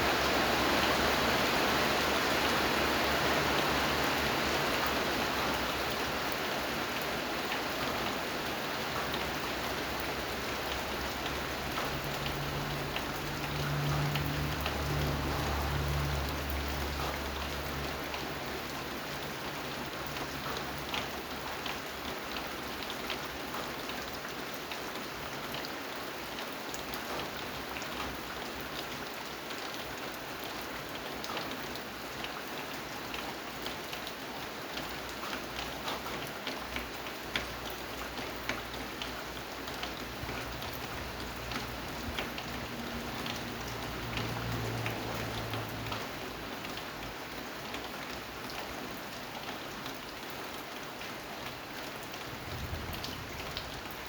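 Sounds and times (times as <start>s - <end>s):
rain drops ticking on hard surface: 0.0s - 54.0s.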